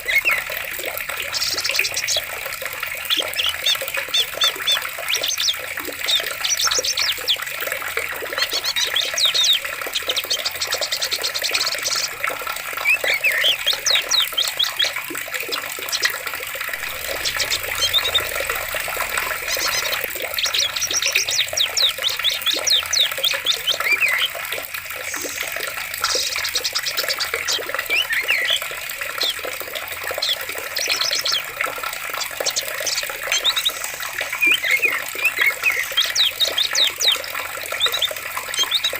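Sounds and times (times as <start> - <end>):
birds calling and trilling: 0.0 - 38.9
running water stream: 0.0 - 38.9.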